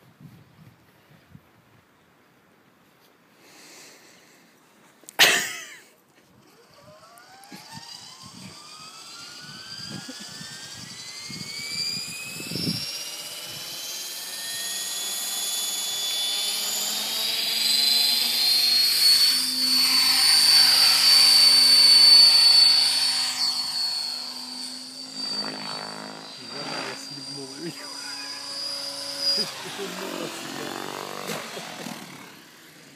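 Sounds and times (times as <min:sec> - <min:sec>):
model helicopter rotor whine: 0:06.4 - 0:32.9.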